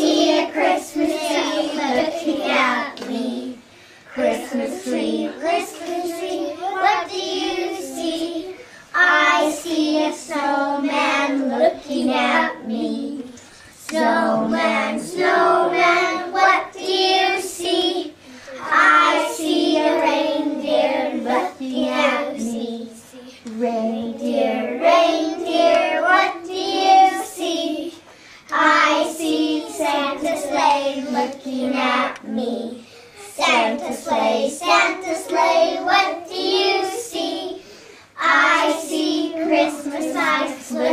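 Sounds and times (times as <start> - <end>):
children singing unaccompanied: 0.0 - 40.9.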